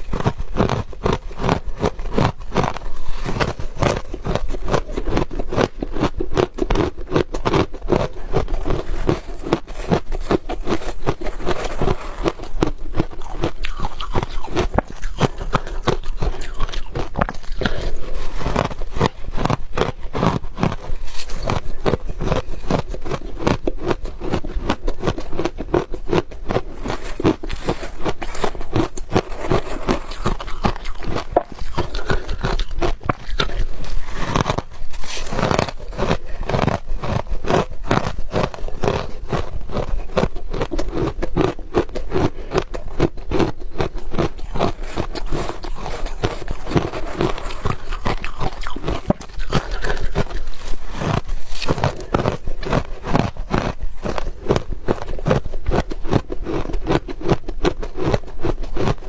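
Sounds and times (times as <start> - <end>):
crunching and chewing ice: 0.0 - 59.0.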